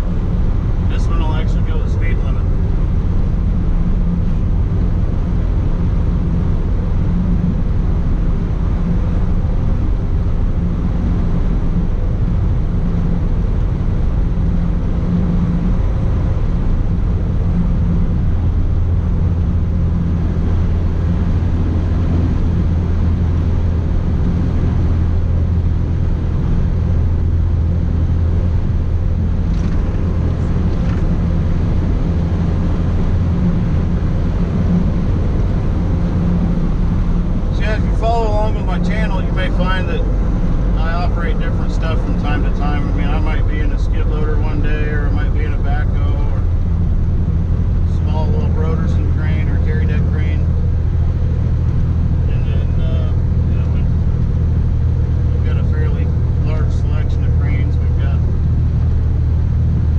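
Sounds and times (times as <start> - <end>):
diesel engine droning: 0.0 - 59.9
road and tyre noise: 0.0 - 59.9.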